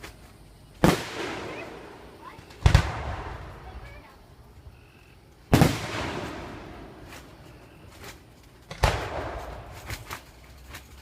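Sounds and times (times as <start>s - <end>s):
fireworks shells bursting and rumbling: 0.0s - 4.3s, 5.2s - 11.0s.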